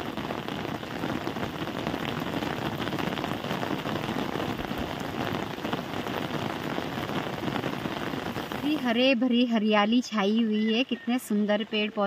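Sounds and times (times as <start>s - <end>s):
heavy rain: 0.0s - 10.9s.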